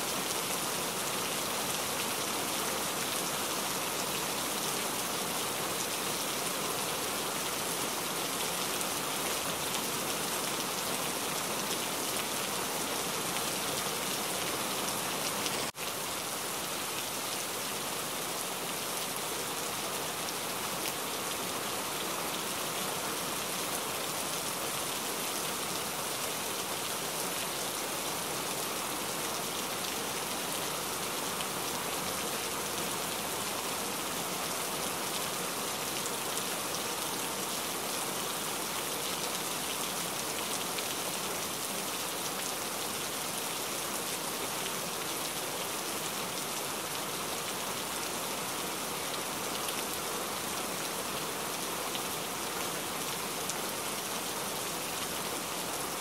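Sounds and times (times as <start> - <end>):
rain-like hiss: 0.0 - 56.0.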